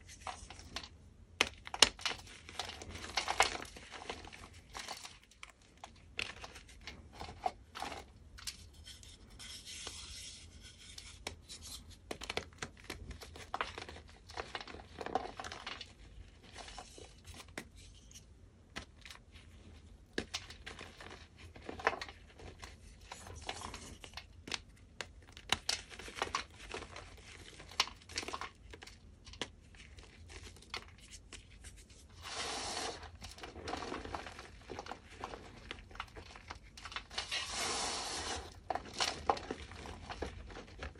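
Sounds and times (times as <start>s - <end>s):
chalk block crunching and crumbling: 0.0s - 40.9s.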